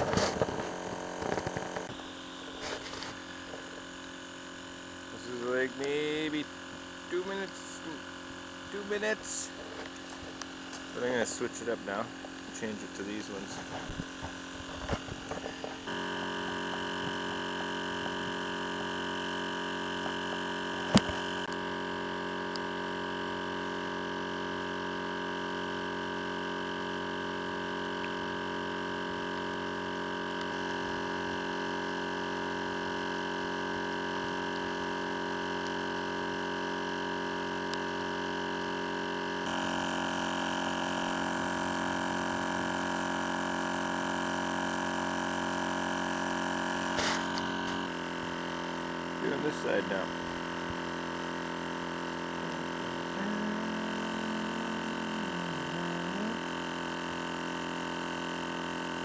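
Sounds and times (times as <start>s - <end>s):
electric air pump running: 0.0s - 59.0s.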